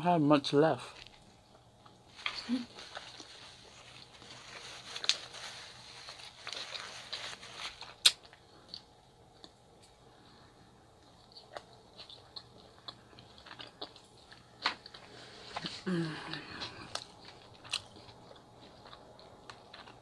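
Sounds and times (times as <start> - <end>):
person chewing food: 1.0 - 20.0.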